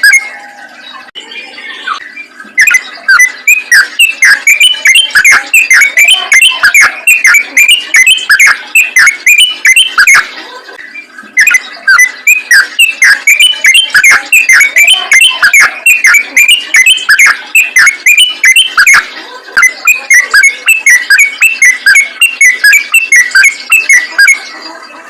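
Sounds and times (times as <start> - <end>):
bird singing bubbly whistled notes: 0.0 - 25.0.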